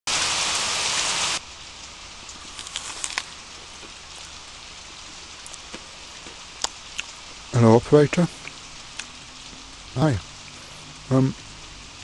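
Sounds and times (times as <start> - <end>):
rain falling: 0.1 - 12.0
drips and ticks: 1.6 - 12.0.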